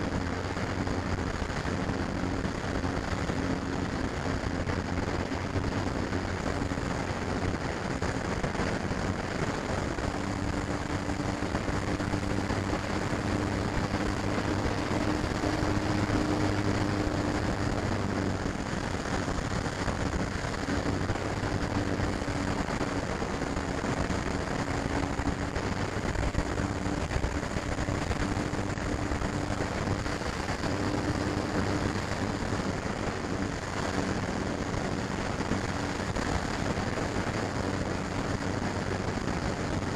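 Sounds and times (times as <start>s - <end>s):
model plane motor hum: 0.0s - 39.9s.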